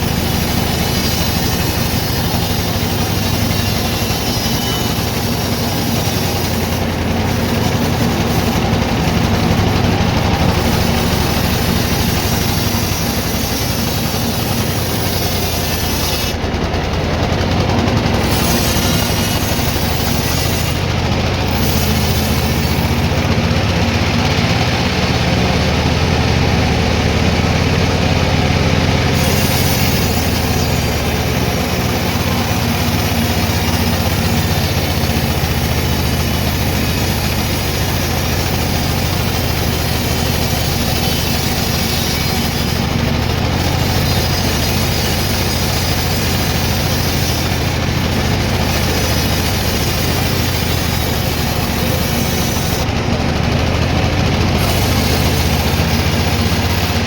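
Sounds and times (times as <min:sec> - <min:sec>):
sawmill machinery hum: 0:00.0 - 0:57.0.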